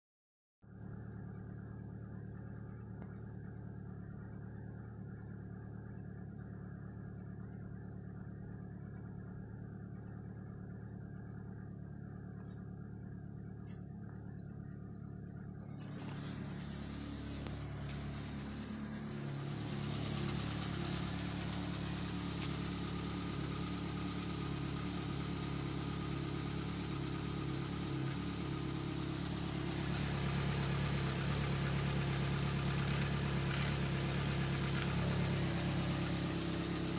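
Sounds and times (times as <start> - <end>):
car engine idling: 0.7 - 36.9.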